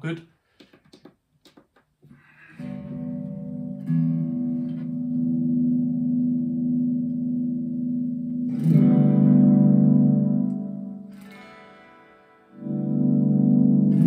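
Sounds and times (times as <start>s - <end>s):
electric guitar chords strummed: 2.6s - 14.0s.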